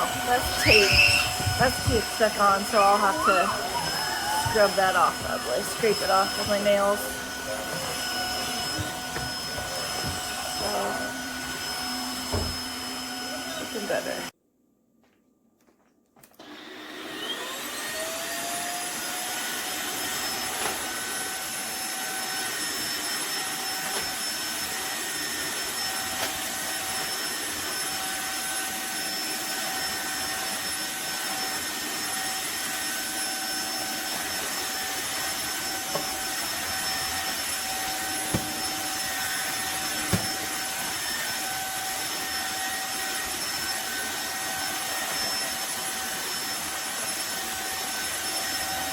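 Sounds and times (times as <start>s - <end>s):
floor cleaner motor whining: 0.0s - 14.3s, 16.4s - 48.9s.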